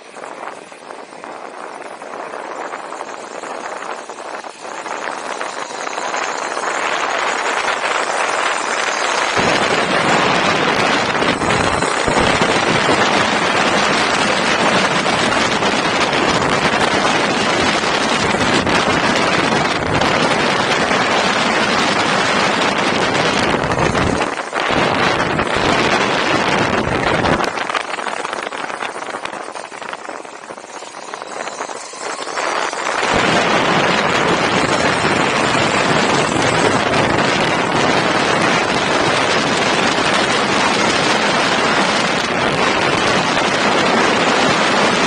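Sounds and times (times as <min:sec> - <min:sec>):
wind buffeting microphone: 0:00.0 - 0:45.0
deep rumble: 0:01.7 - 0:45.0.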